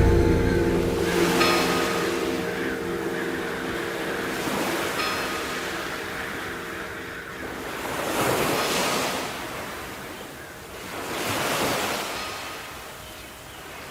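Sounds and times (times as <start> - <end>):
sea waves washing in: 0.0 - 12.8.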